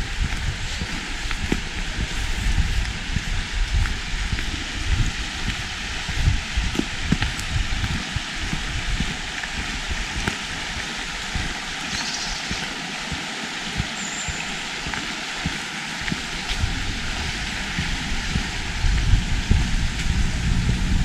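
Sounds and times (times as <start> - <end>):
running water hiss: 0.0 - 21.0.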